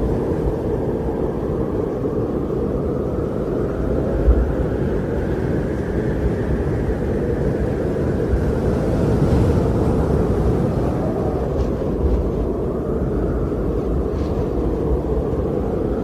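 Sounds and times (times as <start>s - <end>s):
steady wind blowing: 0.0s - 16.0s.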